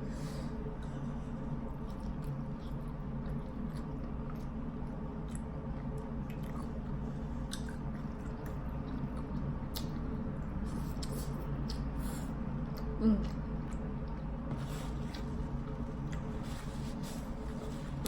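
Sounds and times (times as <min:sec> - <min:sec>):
person chewing food: 0:01.6 - 0:18.0.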